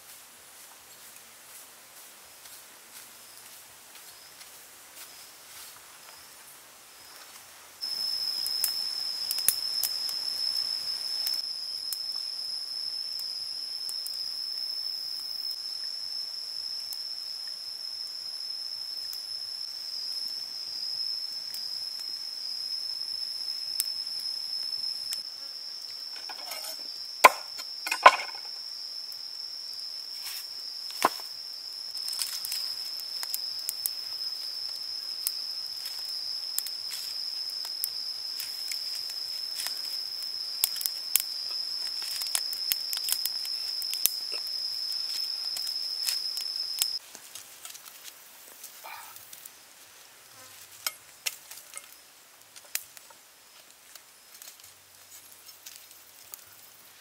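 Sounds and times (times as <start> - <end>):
insects droning: 0.0 - 57.0
wood fire crackling: 0.1 - 57.0.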